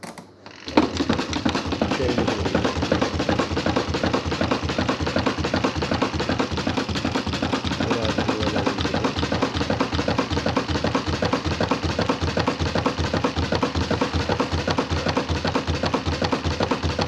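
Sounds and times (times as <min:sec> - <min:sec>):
washing machine motor hum: 0:00.0 - 0:17.0
fast even thumping: 0:00.7 - 0:17.0.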